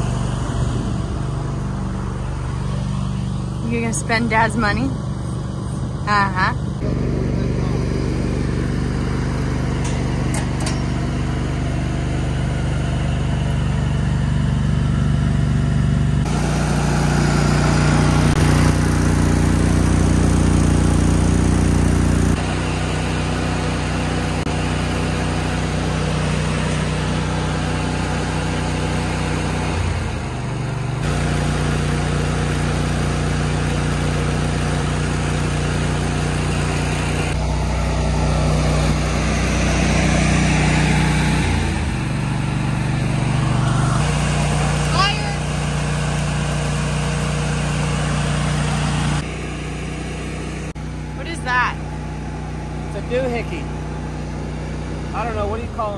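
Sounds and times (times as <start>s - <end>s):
welding machine engine humming: 0.0s - 55.9s.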